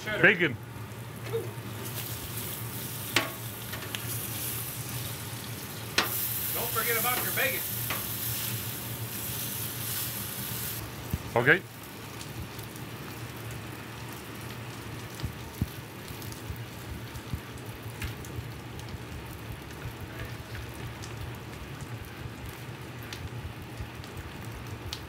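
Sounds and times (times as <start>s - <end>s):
bacon sizzling on a griddle: 0.0s - 25.0s
low steady hum: 0.0s - 25.0s.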